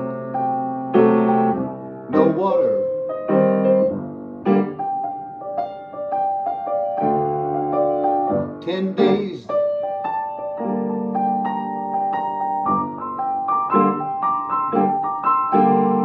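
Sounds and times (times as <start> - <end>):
grand piano chords and melody: 0.0 - 16.0.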